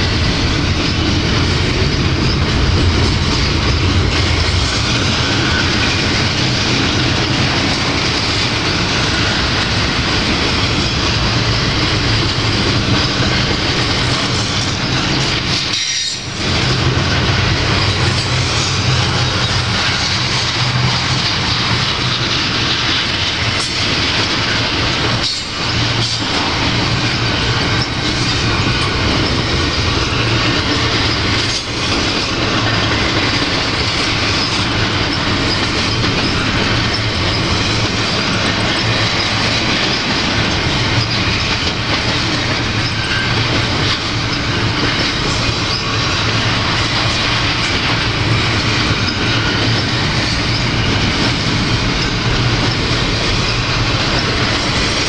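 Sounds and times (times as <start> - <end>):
steel train wheels on rails: 0.0 - 55.0.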